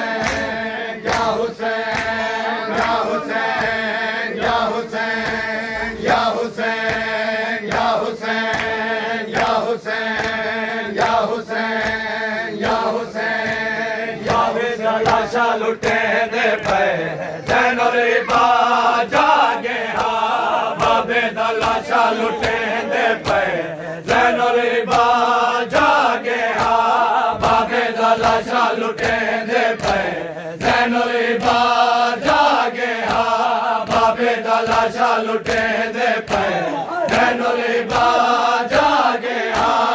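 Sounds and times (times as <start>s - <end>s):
hands slapping chests: 0.0s - 39.9s
men chanting in unison: 0.0s - 39.9s.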